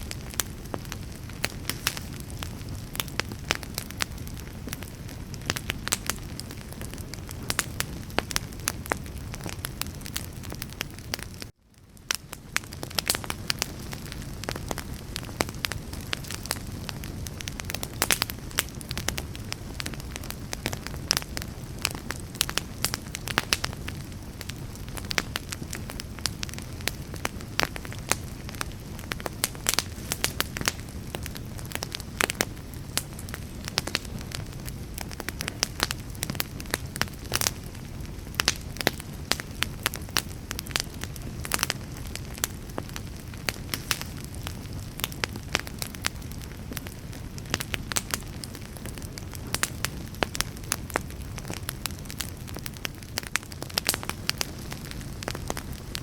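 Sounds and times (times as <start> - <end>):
low rumble of flame: 0.0 - 56.0
wood fire crackling and popping: 0.0 - 56.0.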